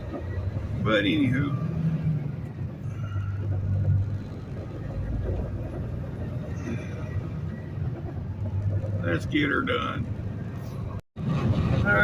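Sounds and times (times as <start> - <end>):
diesel truck engine drone: 0.0 - 12.0
road noise: 0.0 - 12.0.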